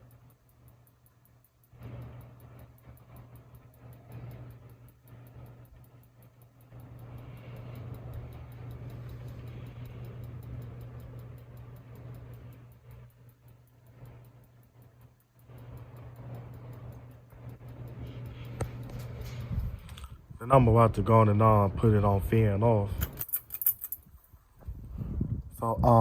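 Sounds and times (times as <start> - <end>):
light ticking: 0.0 - 24.0
ceiling fan motor hum: 0.0 - 26.0.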